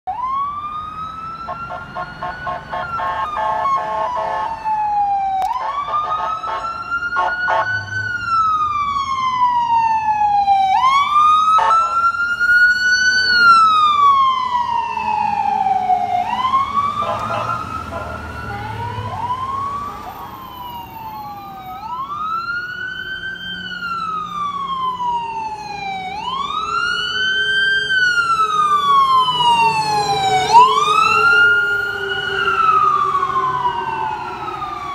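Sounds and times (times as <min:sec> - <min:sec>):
ambulance sirens wailing: 0:00.0 - 0:34.9.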